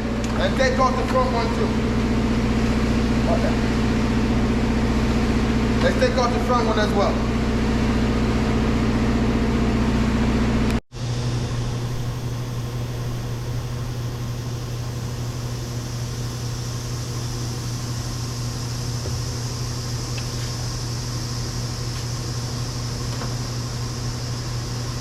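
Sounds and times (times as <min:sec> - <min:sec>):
mechanical hum with low tones: 0:00.0 - 0:25.0.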